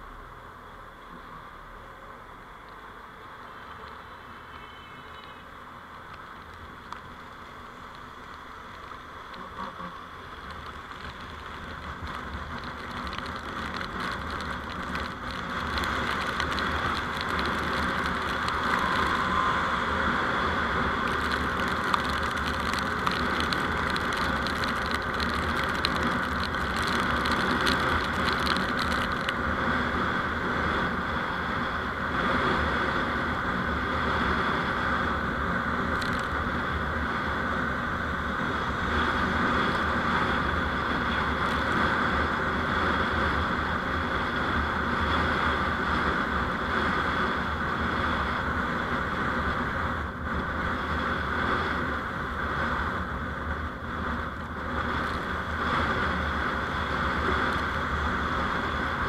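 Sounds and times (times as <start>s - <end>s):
vehicle driving on road: 0.0s - 59.0s.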